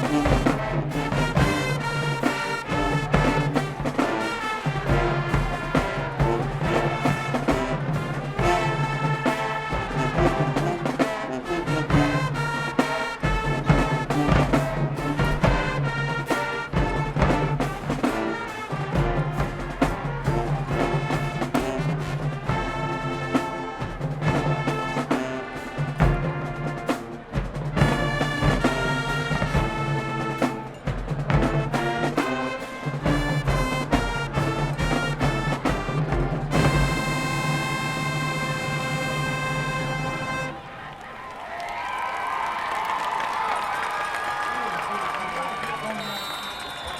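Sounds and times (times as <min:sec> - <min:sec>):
drumline beat: 0:00.0 - 0:40.5
brass section playing chords: 0:00.0 - 0:40.9.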